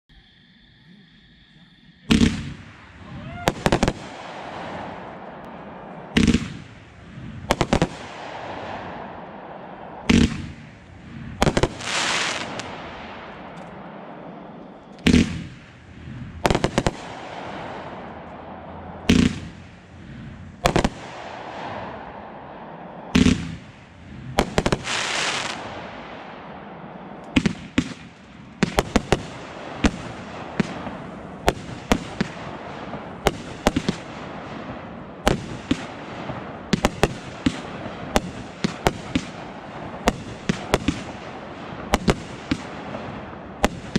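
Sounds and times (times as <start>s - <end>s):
fireworks booming: 2.0s - 43.9s
firework hiss: 2.1s - 43.9s
fireworks crackling pops: 2.1s - 43.9s.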